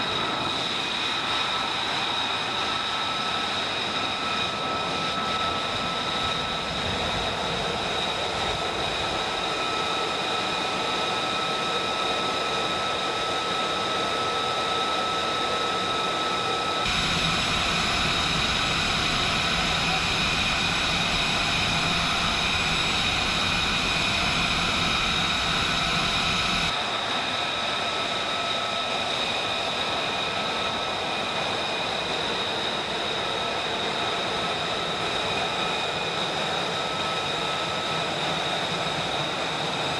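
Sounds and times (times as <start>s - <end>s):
jet engine whine and roar: 0.0s - 39.9s.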